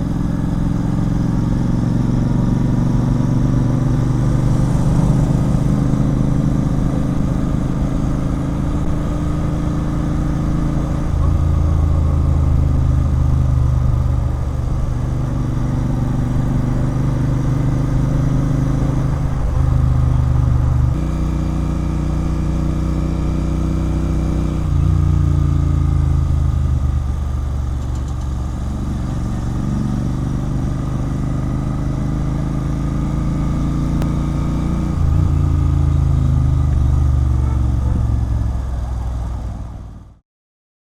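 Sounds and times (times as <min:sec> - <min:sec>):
motorcycle engine through loud exhaust: 0:00.0 - 0:40.2.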